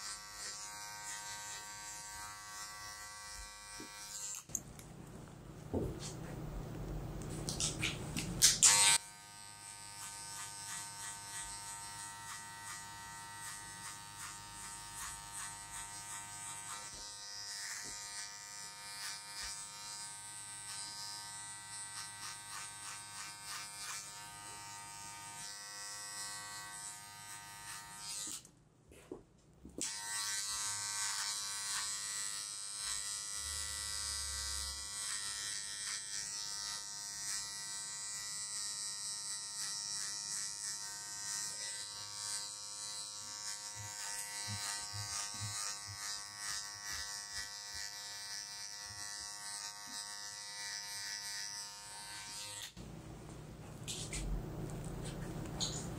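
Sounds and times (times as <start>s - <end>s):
electric hair trimmer buzzing: 0.0s - 4.6s, 7.5s - 28.5s, 29.8s - 52.8s.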